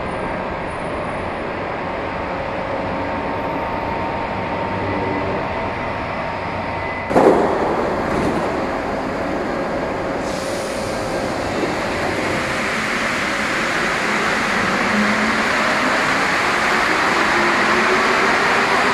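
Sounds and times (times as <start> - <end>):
metro train rumbling: 0.0 - 18.9.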